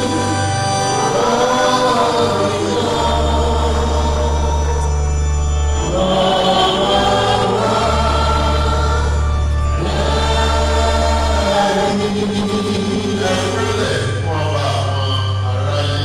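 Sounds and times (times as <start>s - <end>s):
choir singing a hymn: 0.0s - 16.0s
held low bass notes: 0.0s - 16.0s.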